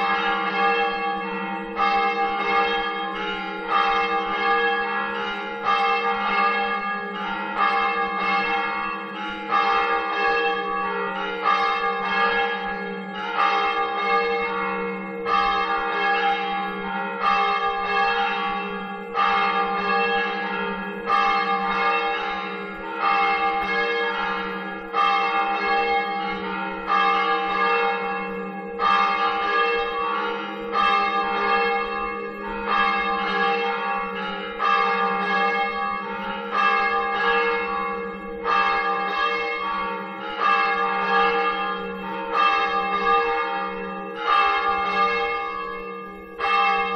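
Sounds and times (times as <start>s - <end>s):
church bells ringing: 0.0s - 46.9s.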